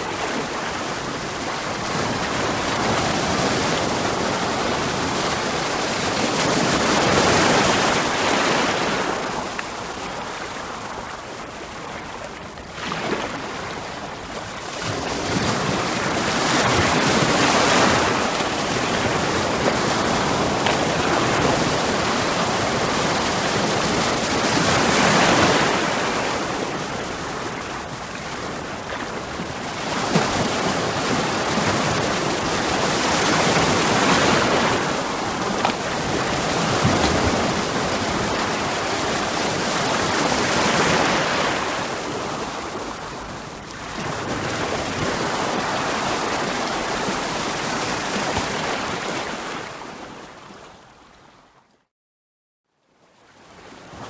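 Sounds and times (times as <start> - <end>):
ocean waves breaking on rocks: 0.0 - 50.2.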